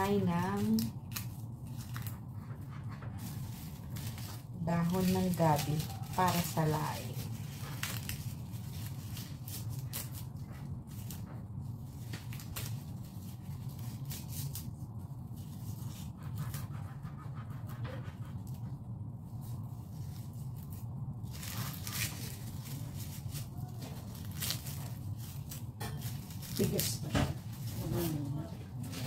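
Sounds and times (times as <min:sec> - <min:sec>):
dried leaves crackling: 0:00.0 - 0:16.6, 0:19.2 - 0:29.0.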